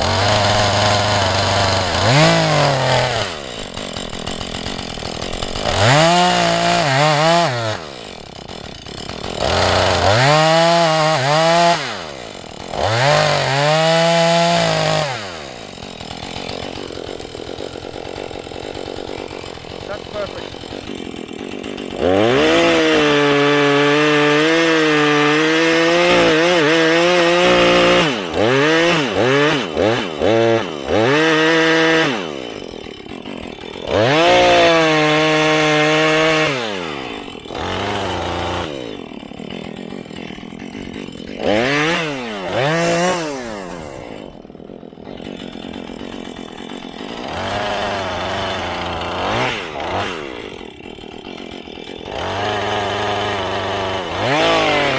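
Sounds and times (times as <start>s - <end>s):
chainsaw revving and idling: 0.0s - 54.9s.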